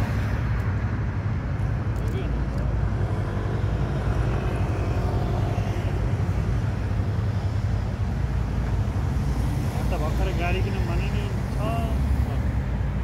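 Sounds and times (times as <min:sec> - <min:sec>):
cars driving past: 0:00.0 - 0:13.0
low traffic rumble: 0:00.0 - 0:13.0.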